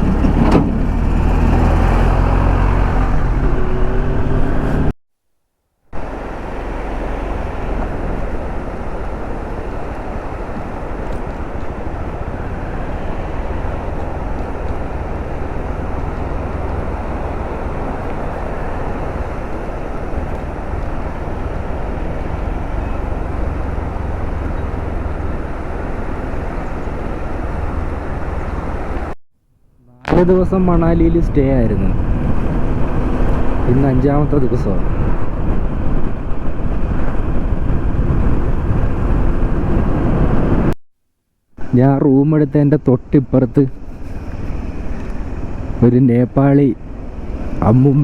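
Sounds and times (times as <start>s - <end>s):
vehicle rumbling on the move: 0.0s - 5.0s, 5.9s - 29.2s, 29.8s - 40.8s, 41.6s - 48.0s
wind noise: 5.9s - 29.2s, 29.9s - 40.8s, 43.0s - 48.0s.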